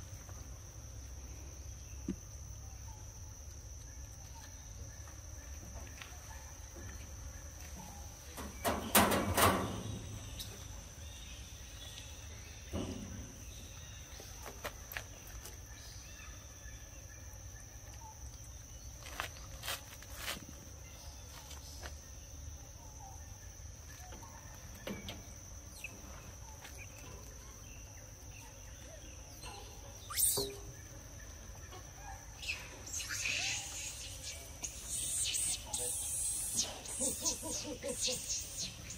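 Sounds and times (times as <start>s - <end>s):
insect drone: 0.0s - 38.9s.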